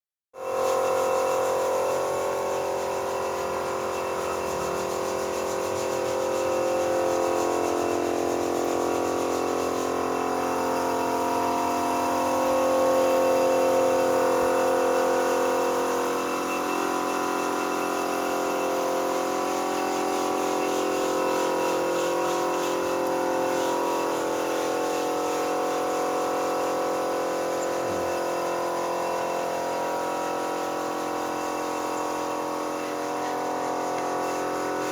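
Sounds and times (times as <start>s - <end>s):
power tool humming: 0.4s - 34.9s.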